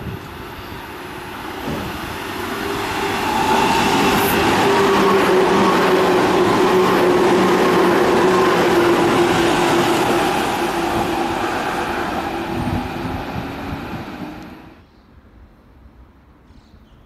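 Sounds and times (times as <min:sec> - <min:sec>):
electric train on tracks: 0:00.0 - 0:14.9.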